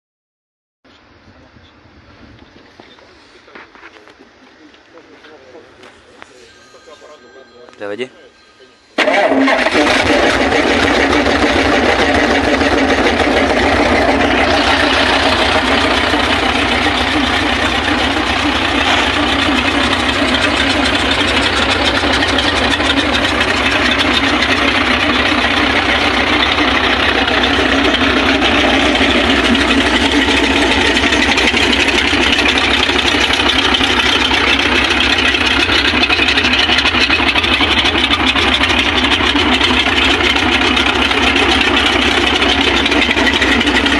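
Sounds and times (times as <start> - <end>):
diesel engine idling: 1.1 - 43.9.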